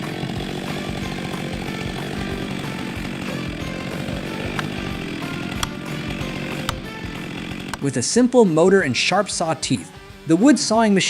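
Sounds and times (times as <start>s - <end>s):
chainsaw running: 0.0s - 10.2s.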